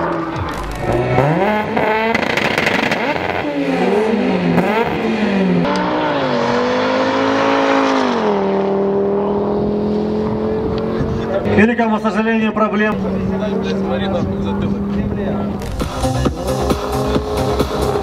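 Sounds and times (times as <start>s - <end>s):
racing car engines at full throttle: 0.0s - 18.0s.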